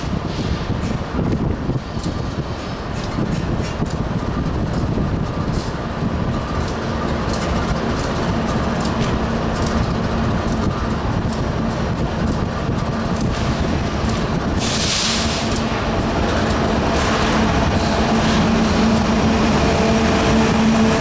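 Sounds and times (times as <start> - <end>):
diesel locomotive drone: 0.0 - 21.0
wheels clicking on rails: 0.0 - 21.0.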